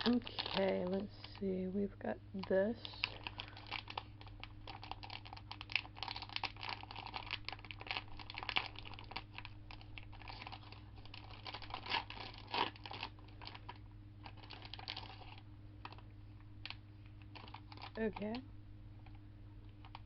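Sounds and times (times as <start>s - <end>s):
plastic wrapper crinkling: 0.0s - 1.5s, 2.4s - 18.4s, 19.0s - 20.0s
low electrical hum: 0.0s - 20.0s.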